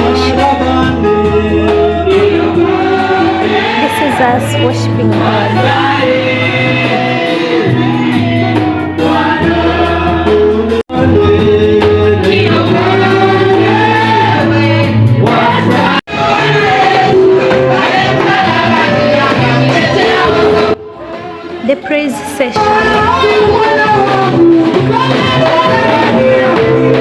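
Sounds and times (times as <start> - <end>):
choir and congregation singing: 0.0 - 21.6, 22.6 - 27.0
low instrumental backing: 0.0 - 27.0.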